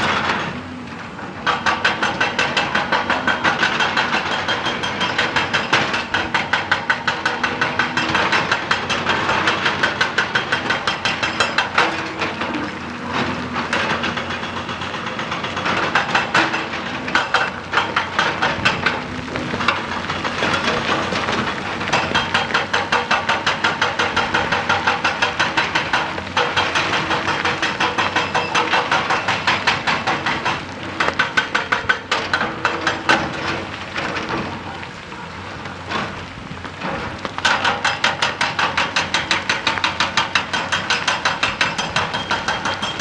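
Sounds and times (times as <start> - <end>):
hydraulic rock breaker hammering rock: 0.0 - 43.0.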